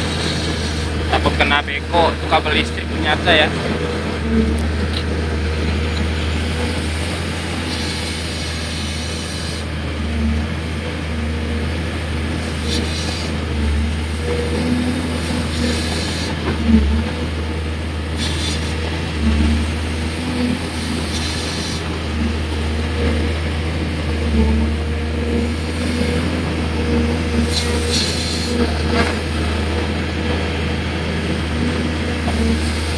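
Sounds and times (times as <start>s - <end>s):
excavator diesel engine working: 0.0s - 32.9s.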